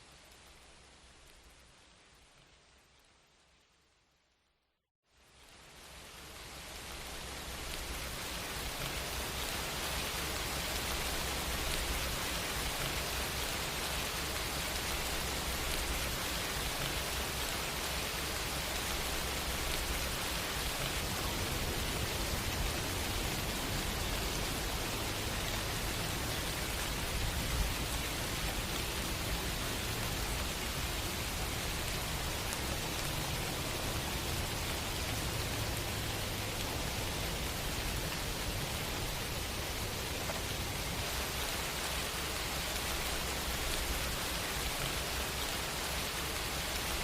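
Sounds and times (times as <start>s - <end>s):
dense rain falling: 0.0s - 47.0s.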